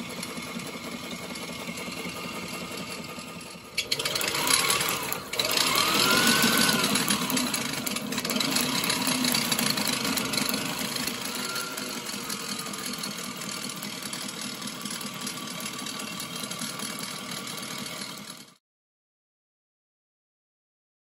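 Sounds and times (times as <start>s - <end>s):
sewing machine stitching fabric: 1.8s - 18.6s.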